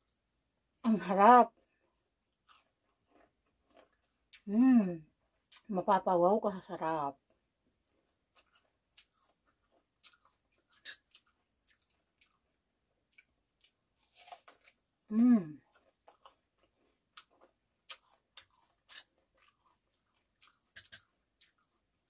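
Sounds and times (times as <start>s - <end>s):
chewing and crunching fruit: 1.4s - 5.7s, 7.0s - 22.0s.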